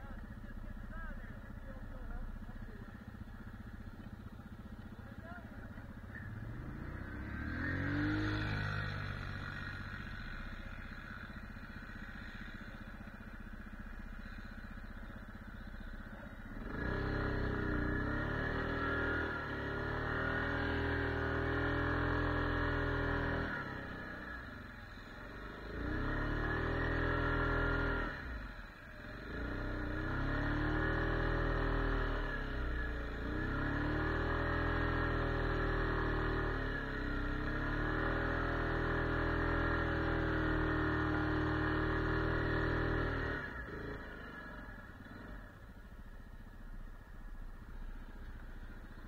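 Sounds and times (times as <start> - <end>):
atv engine revving: 0.0 - 49.0.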